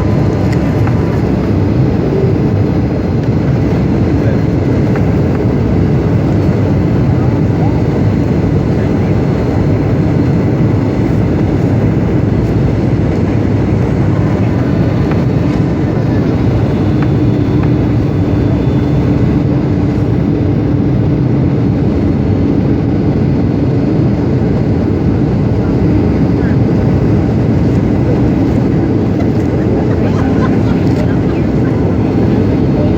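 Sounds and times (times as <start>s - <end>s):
airliner engine and airflow rush: 0.0s - 32.9s
steady hum: 0.0s - 32.9s.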